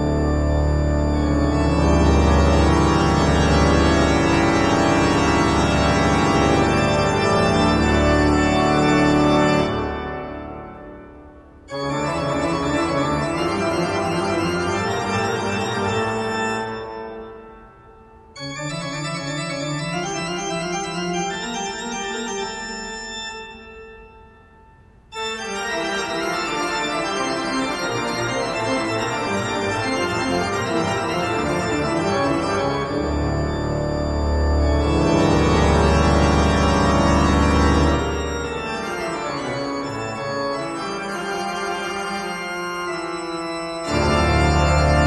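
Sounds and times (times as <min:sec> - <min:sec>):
organ chords: 0:00.0 - 0:45.0.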